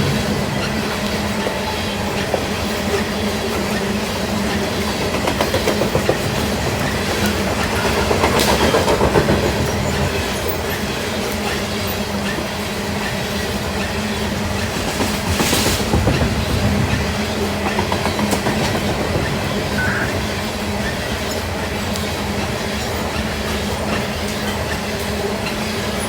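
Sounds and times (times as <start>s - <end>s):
freight train rumbling past: 0.0s - 26.0s
wheels clacking over rail joints: 0.0s - 26.0s.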